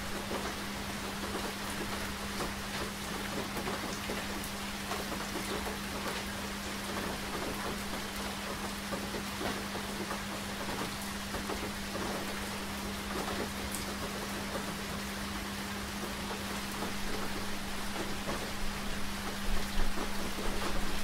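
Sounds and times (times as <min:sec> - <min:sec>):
raindrops ticking on a surface: 0:00.0 - 0:21.0
steady rain: 0:00.0 - 0:21.0.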